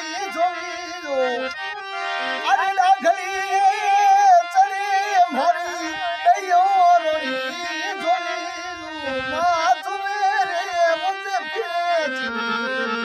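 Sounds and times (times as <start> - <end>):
harmonium chords: 0.0 - 13.0
folk singing: 2.3 - 13.0.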